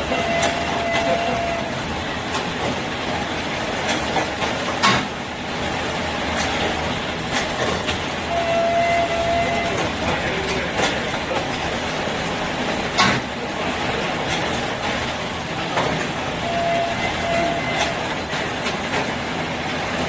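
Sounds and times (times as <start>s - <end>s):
binding machine running: 0.0s - 20.0s.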